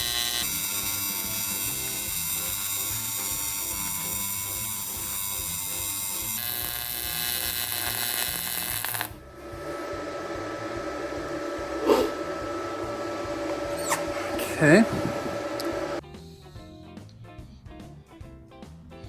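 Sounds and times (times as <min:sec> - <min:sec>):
welder arc buzzing: 0:00.0 - 0:16.0.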